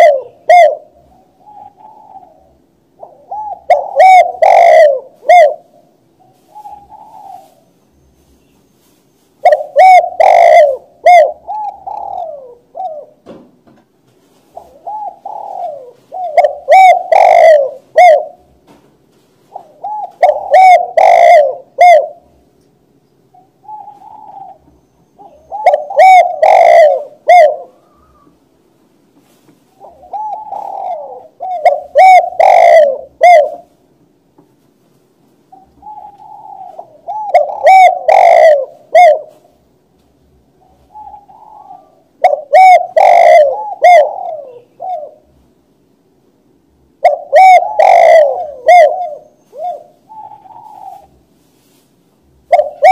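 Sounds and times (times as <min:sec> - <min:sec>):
dove cooing: 0:00.0 - 0:08.2, 0:08.8 - 0:13.2, 0:14.3 - 0:18.7, 0:19.4 - 0:22.5, 0:23.3 - 0:28.4, 0:29.6 - 0:33.8, 0:35.5 - 0:39.7, 0:40.3 - 0:45.5, 0:47.0 - 0:51.8, 0:52.4 - 0:52.9.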